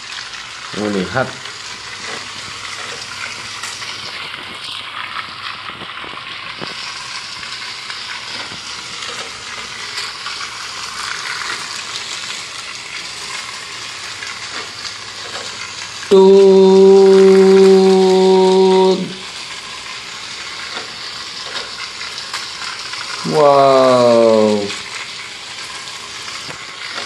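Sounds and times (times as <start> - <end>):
toy train rattling on track: 0.0 - 27.0.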